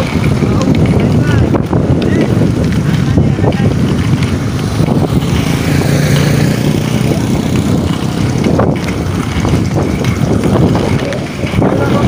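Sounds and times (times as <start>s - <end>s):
skate wheels rolling on asphalt: 0.0s - 12.0s
wind buffeting microphone: 0.0s - 12.0s.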